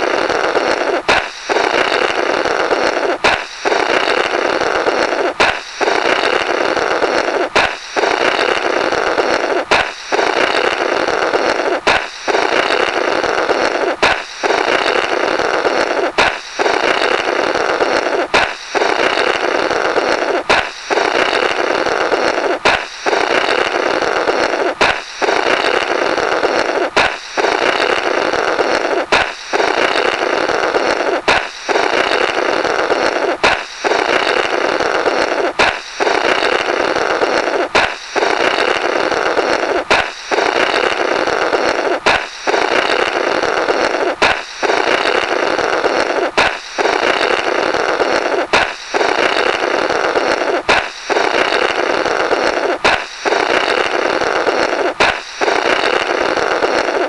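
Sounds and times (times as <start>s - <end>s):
balloon popping: 0.0s - 57.0s
raspy raspberry blow: 0.0s - 57.0s.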